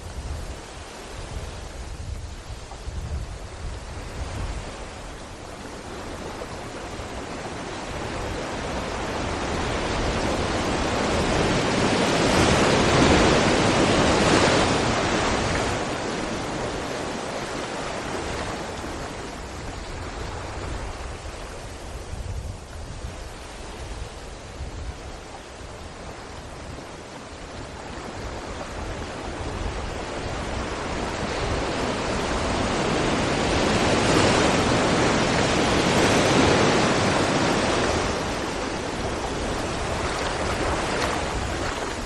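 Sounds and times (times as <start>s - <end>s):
sea waves crashing on rocks: 0.1s - 21.8s, 25.2s - 42.0s.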